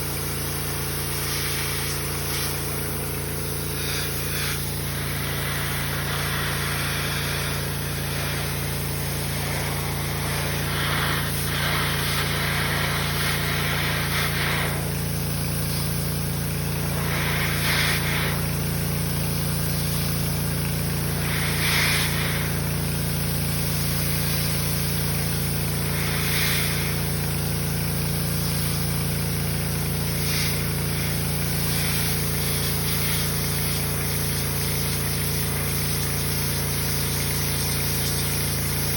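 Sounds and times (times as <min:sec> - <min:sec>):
hissing spray bursts: 0:00.0 - 0:38.9
pressure washer engine running: 0:00.0 - 0:38.9.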